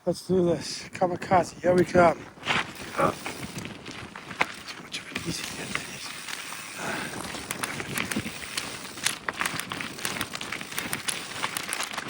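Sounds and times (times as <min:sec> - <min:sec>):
bike tyres crunching over rocks: 0:00.9 - 0:12.0
bike clicking and rattling: 0:01.6 - 0:12.0.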